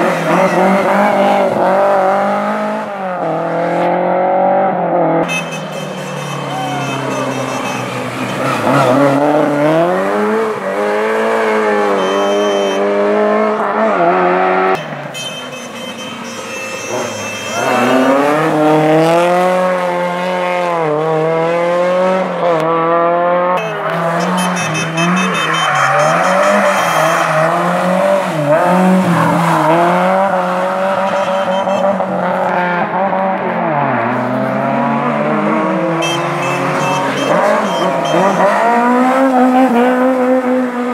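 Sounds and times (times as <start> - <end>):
rally car engine revving: 0.0 - 5.3, 6.3 - 14.8, 16.9 - 40.9.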